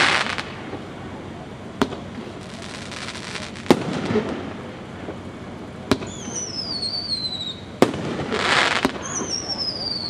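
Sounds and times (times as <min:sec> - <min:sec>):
faint firework crackling: 0:00.0 - 0:10.0
firework bangs: 0:00.0 - 0:10.0.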